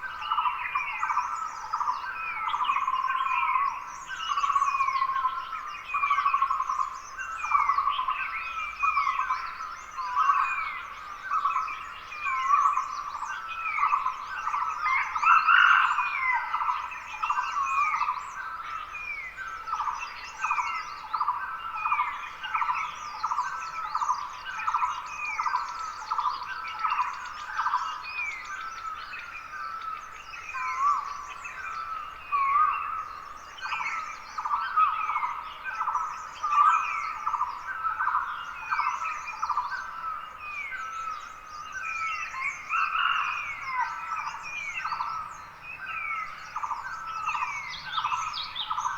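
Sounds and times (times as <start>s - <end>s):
birds twittering: 0.0s - 48.9s.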